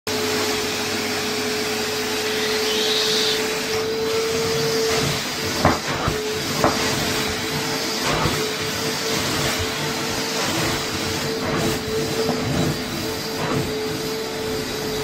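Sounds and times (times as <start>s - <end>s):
vacuum suction rushing: 1.8s - 15.0s.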